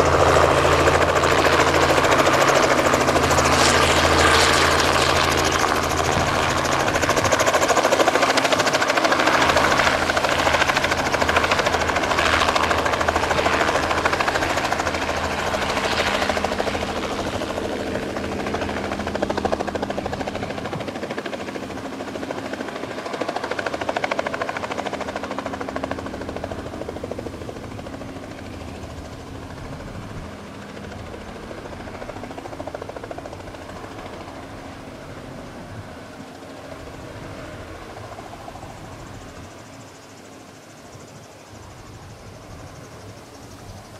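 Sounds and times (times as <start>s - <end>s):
helicopter hovering: 0.0s - 43.9s.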